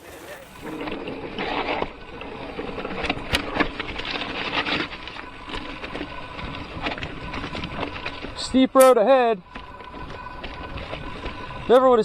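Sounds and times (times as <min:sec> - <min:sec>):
mountain bike rattling: 0:00.0 - 0:12.0.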